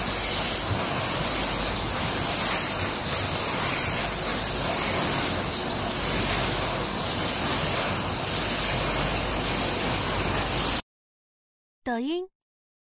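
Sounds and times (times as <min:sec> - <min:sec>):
machinery running: 0:00.0 - 0:10.8.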